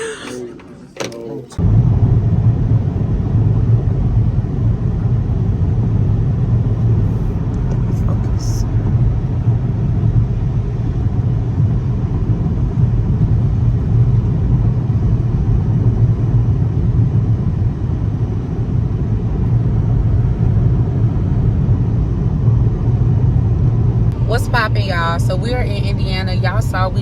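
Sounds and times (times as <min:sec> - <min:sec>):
car road rumble: 0:00.0 - 0:27.0.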